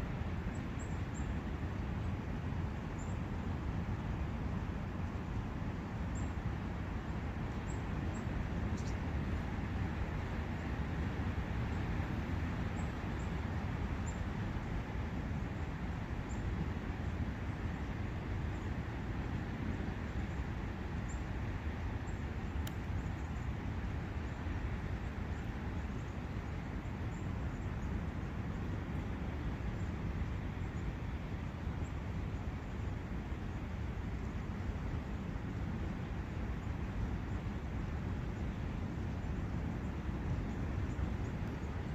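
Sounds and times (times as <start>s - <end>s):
forest brook: 0.0s - 41.9s.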